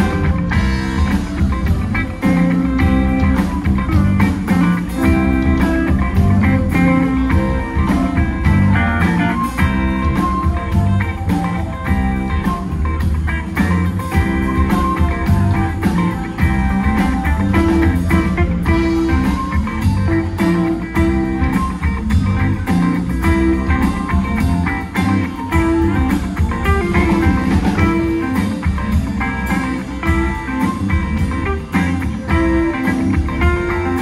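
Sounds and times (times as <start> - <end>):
blues rock band playing: 0.0 - 34.0.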